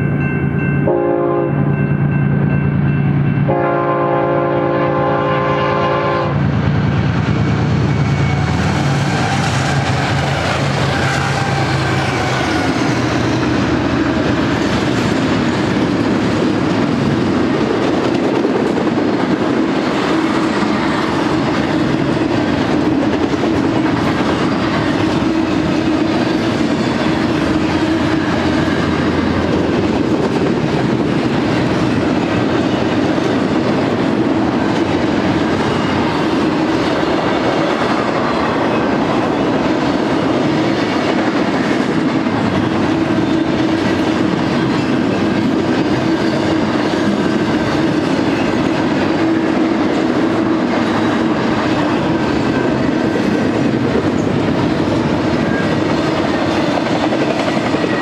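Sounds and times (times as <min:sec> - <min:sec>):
freight train wheels rolling: 0:06.1 - 0:58.0.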